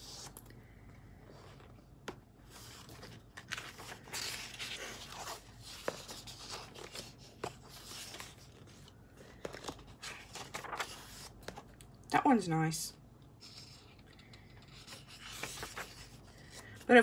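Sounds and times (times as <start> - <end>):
paper pages rustling: 1.4 - 11.8, 13.4 - 17.0.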